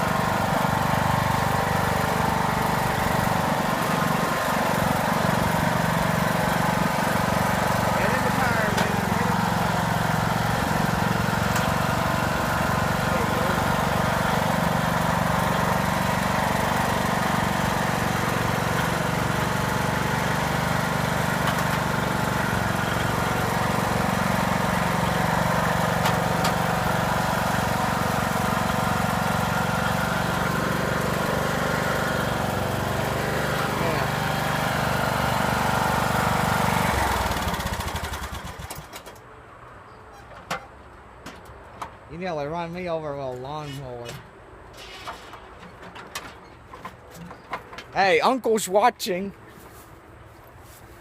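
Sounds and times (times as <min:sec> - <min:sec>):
lawn mower engine running: 0:00.0 - 0:39.8, 0:40.5 - 0:51.0.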